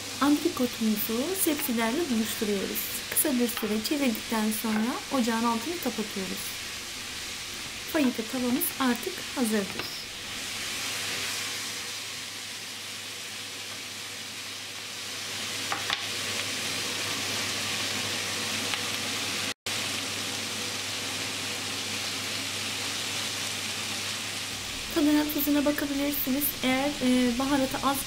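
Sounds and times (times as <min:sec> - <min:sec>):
meat and vegetables sizzling in pan: 0:00.0 - 0:28.0.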